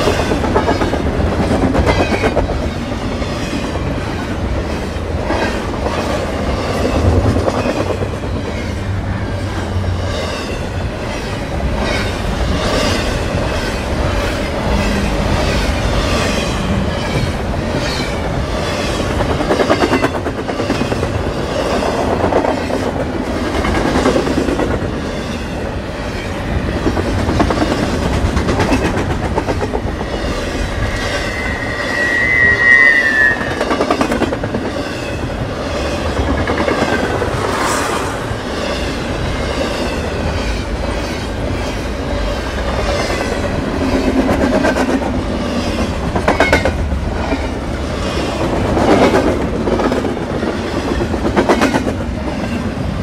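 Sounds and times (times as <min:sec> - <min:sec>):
steel wheels rumbling on rails: 0:00.0 - 0:53.0
train wheels clickety-clack: 0:00.0 - 0:53.0.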